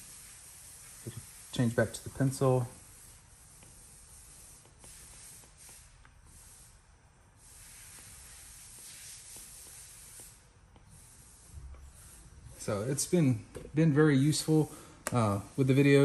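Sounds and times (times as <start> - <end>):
stylus scratching on glass screen: 0.0 - 6.8, 7.4 - 16.0.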